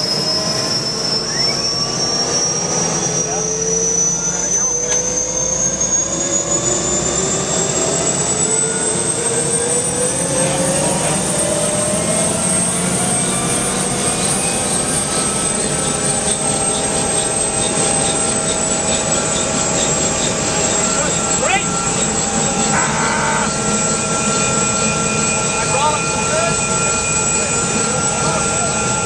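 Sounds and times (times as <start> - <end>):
turbine engine whine: 0.0 - 29.0.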